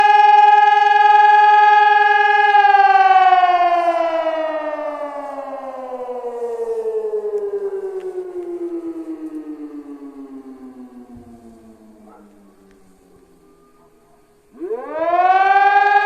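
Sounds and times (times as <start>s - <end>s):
fire alarm siren winding down: 0.0s - 16.0s.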